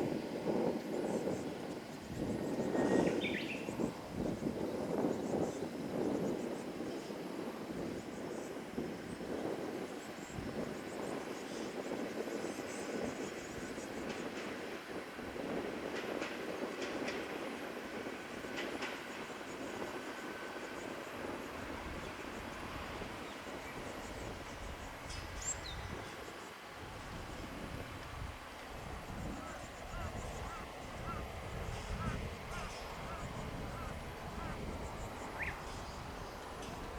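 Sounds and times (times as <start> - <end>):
diesel train rumbling past: 0.0 - 36.9.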